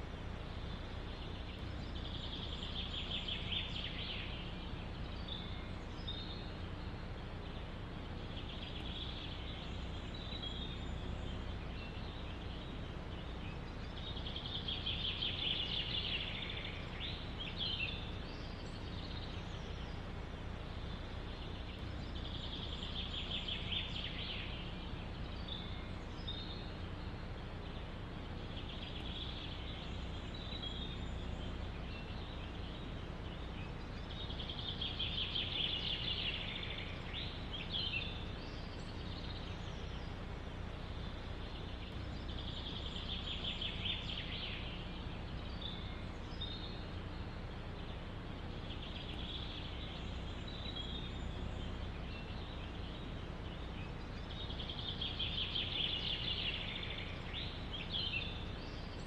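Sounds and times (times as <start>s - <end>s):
songbird trilling: 0.0s - 59.0s
wind in forest: 0.0s - 59.0s.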